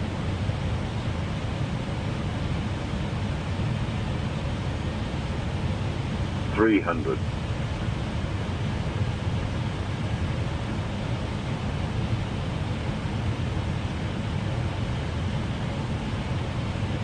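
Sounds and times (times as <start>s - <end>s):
airliner cockpit airflow and engines: 0.0s - 17.0s.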